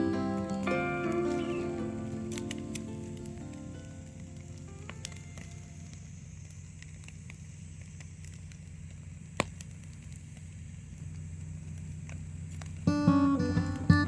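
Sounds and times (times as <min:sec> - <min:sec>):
steady low hum: 0:00.0 - 0:14.0
wood fire crackling: 0:00.0 - 0:14.0.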